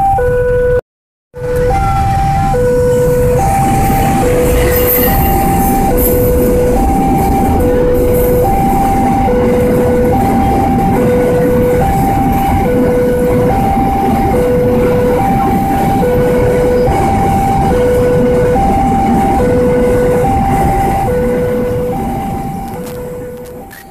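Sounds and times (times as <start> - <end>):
level crossing two-tone alarm: 0.0 - 0.8, 1.4 - 23.9
freight train rumbling past: 1.4 - 23.9.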